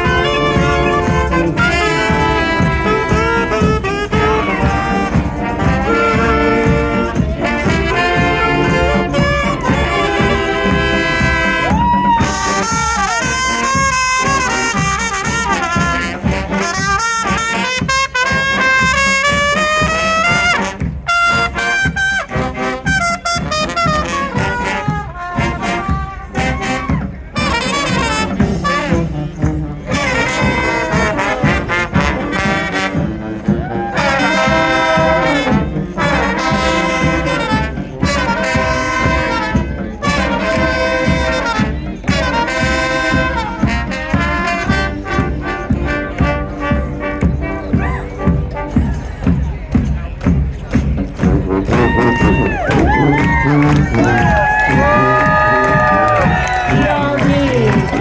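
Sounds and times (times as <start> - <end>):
brass band playing: 0.0 - 58.0
steady drum beat: 0.0 - 58.0.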